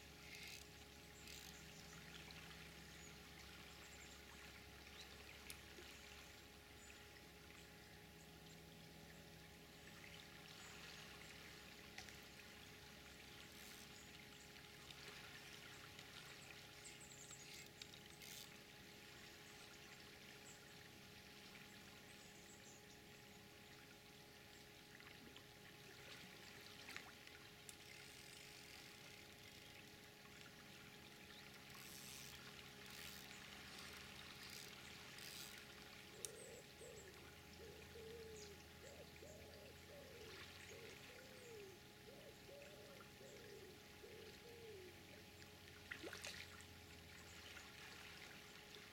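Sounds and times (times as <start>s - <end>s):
river water flowing: 0.0s - 7.8s, 9.5s - 41.8s, 42.5s - 48.9s.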